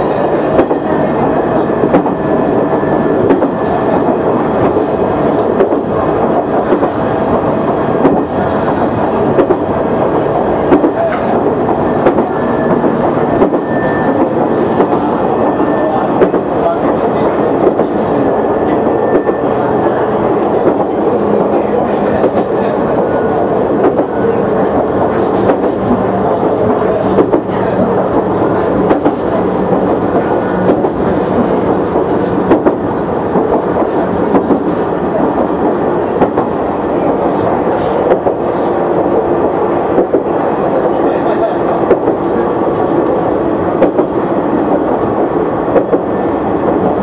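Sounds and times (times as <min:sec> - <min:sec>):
diesel railcar engine drone: 0:00.0 - 0:47.0.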